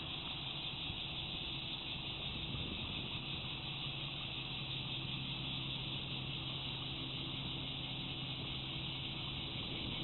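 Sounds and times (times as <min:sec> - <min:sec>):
high-pitched insect chorus: 0:00.0 - 0:10.0
low hum: 0:00.0 - 0:10.0.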